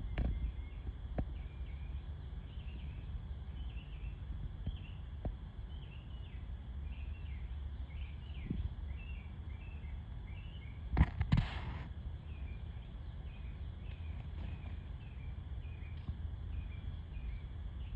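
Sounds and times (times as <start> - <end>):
faint low rumble: 0.0 - 17.9.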